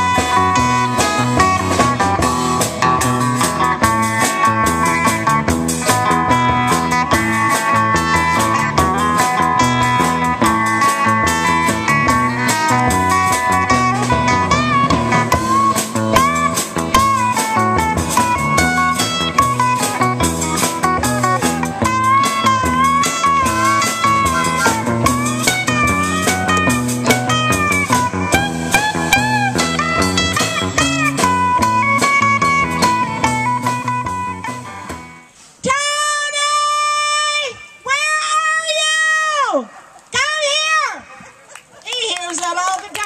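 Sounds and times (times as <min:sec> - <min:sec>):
country-rock band playing: 0:00.0 - 0:35.4
electric guitar lead: 0:00.0 - 0:35.4.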